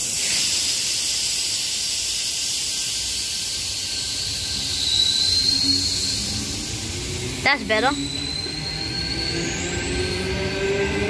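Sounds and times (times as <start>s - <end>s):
electric train hissing: 0.0s - 11.0s
thin train whine: 0.0s - 11.0s.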